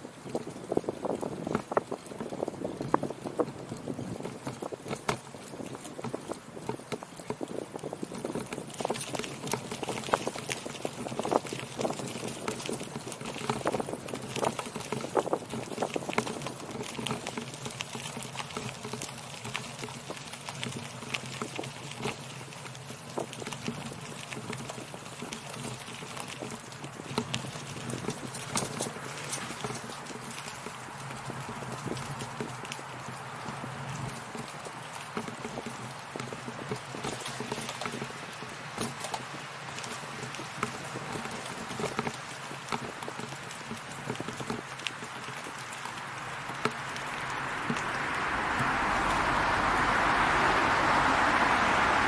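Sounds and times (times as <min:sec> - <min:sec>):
bicycle tyres rolling on gravel: 0:00.0 - 0:52.0.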